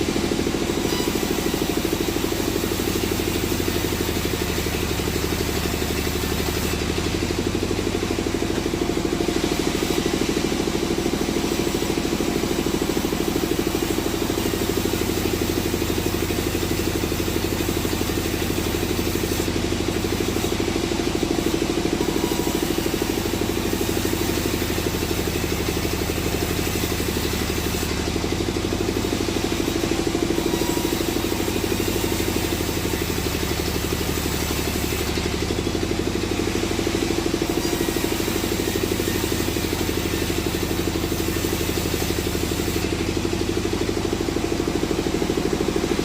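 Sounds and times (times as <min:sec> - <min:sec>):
sawmill machinery droning: 0:00.0 - 0:46.0.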